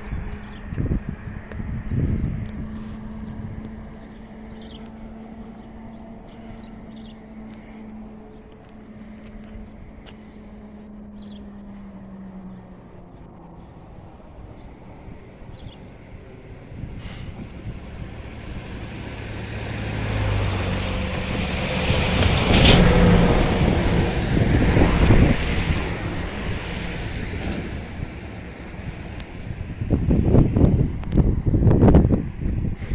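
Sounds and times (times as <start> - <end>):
train rumble: 0.0 - 32.9.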